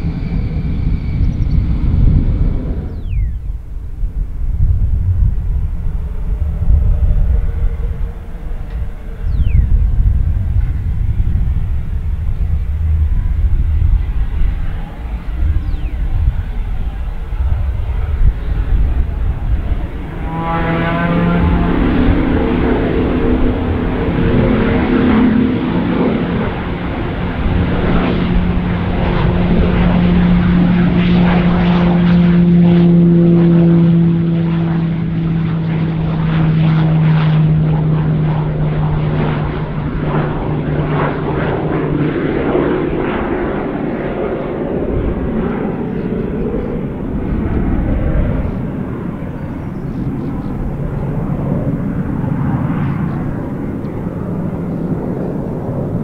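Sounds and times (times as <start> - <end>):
turboprop aircraft drone: 0.0 - 56.0.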